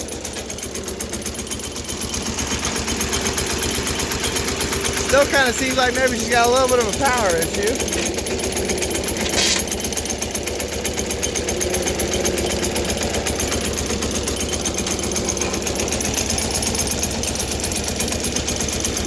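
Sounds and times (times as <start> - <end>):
diesel engine knocking: 0.0 - 19.0.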